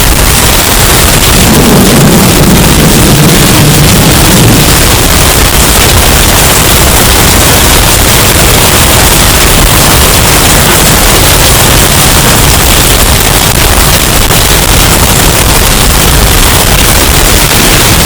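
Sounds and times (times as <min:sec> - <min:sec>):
loud distorted hurricane wind: 0:00.0 - 0:18.0.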